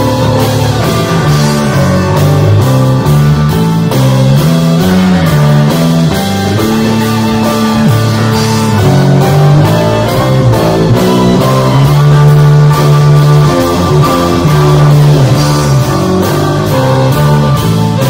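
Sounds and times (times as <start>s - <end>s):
plucked strings and melody: 0.0s - 18.0s
steady drum beat: 0.0s - 18.0s.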